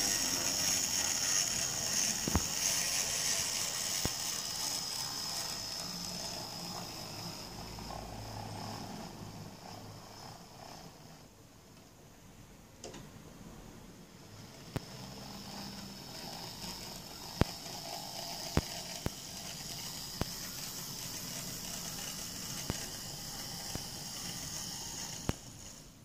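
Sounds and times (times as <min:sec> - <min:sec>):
model train motor whirring: 0:00.0 - 0:11.3, 0:14.4 - 0:26.0.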